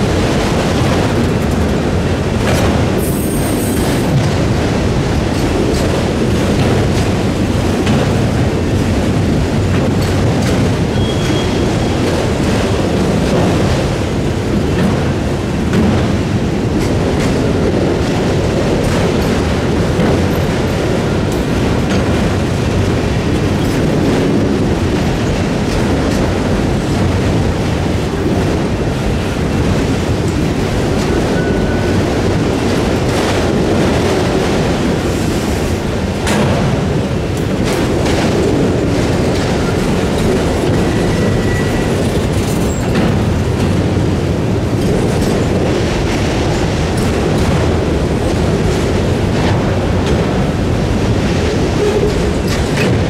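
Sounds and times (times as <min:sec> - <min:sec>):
freight train rumbling past: 0:00.0 - 0:53.0
train wheels clattering: 0:00.0 - 0:53.0.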